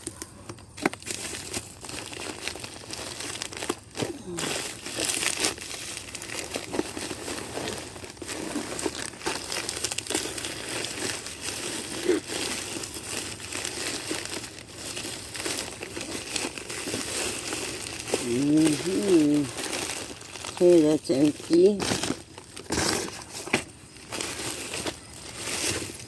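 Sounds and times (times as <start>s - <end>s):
packaging crinkling: 0.0s - 26.0s.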